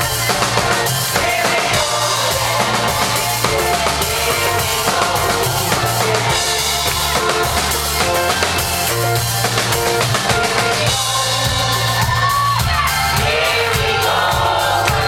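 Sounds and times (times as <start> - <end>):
drum kit beat: 0.0 - 15.0
heavy bass line: 0.0 - 15.0.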